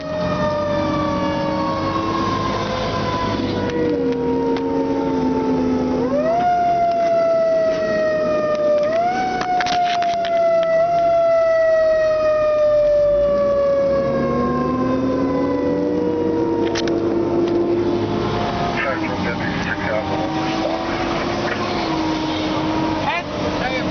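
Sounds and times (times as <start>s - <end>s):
fire engine siren wailing: 0.0s - 23.9s
lower siren tone rising: 0.0s - 23.9s.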